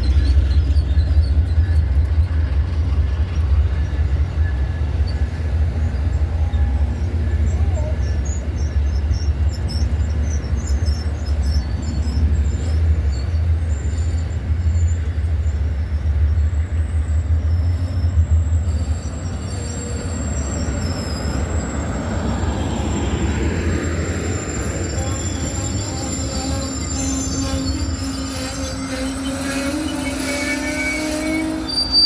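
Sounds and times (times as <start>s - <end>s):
train rumbling: 0.0s - 32.0s
wheel and brake squeal: 0.0s - 32.0s.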